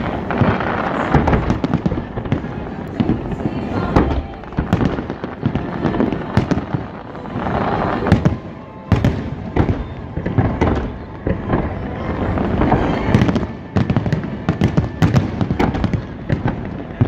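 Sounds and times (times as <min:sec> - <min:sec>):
fireworks booming: 0:00.0 - 0:17.0
fireworks crackling pops: 0:00.0 - 0:17.0.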